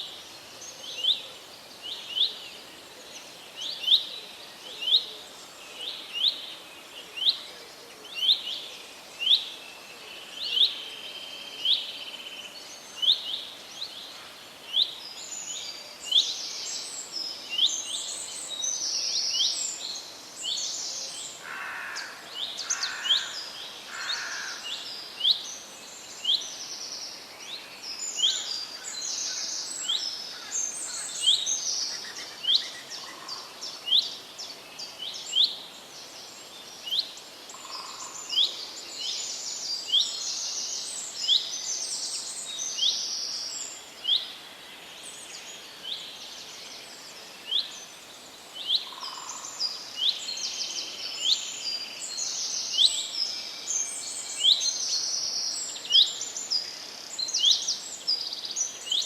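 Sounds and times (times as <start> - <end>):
faint background hiss: 0.0 - 59.0.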